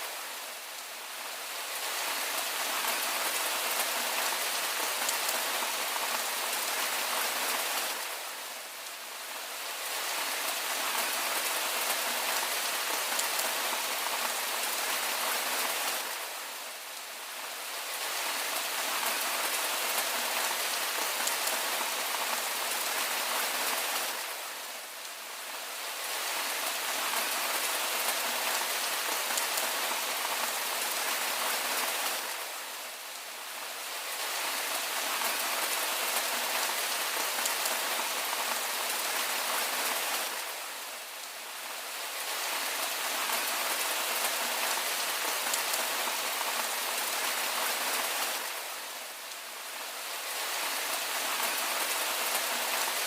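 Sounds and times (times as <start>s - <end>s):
steady rainfall hiss: 0.0s - 53.0s.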